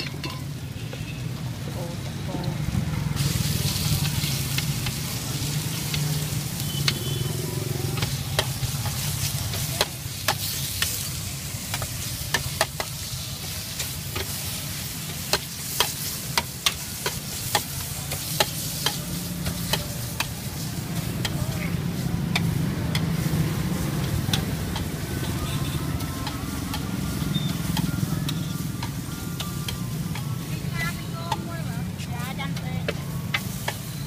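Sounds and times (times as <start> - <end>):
beef sizzling in a wok: 0.0 - 34.0.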